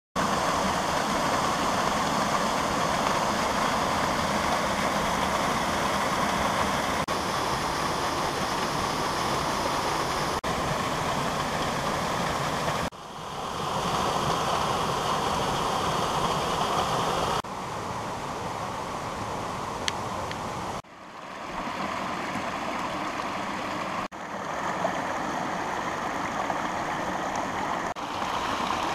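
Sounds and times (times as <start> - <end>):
water rushing over rocks: 0.2 - 28.9.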